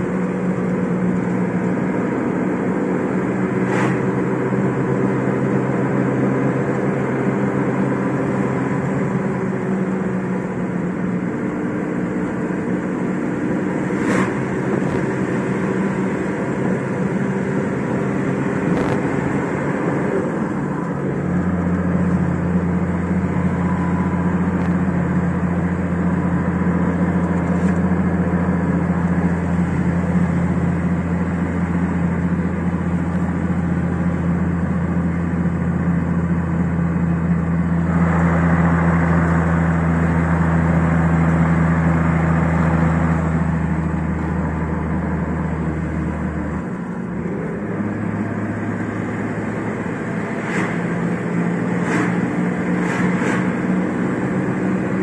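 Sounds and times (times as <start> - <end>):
diesel engine drone from cabin: 0.0 - 55.0.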